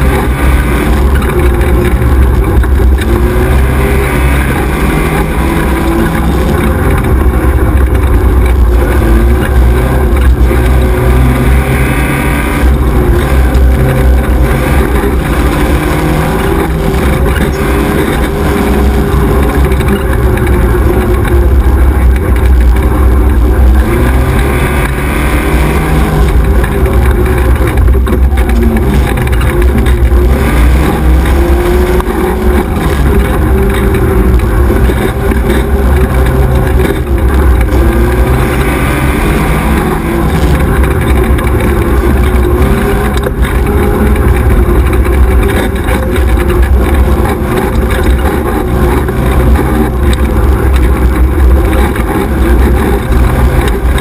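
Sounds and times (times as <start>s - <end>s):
buggy engine revving: 0.0s - 54.0s
heavy low rumble: 0.0s - 54.0s.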